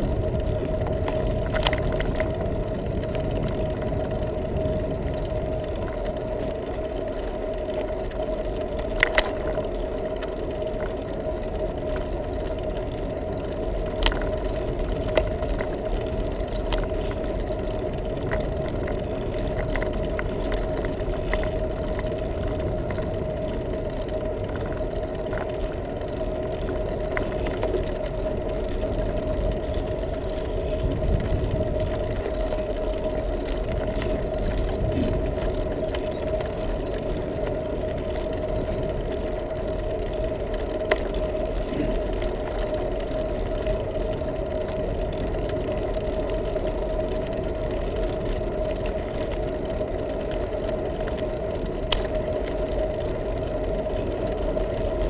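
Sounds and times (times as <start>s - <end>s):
bicycle tyres rumbling on asphalt: 0.0s - 55.0s
sharp clicks and rattles: 0.0s - 55.0s
steady hum: 0.0s - 55.0s
wind: 0.0s - 55.0s.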